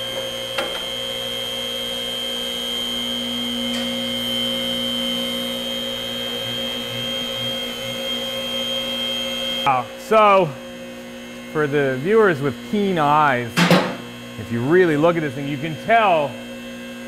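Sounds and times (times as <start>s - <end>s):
hydraulic pump motor humming: 0.0s - 17.0s.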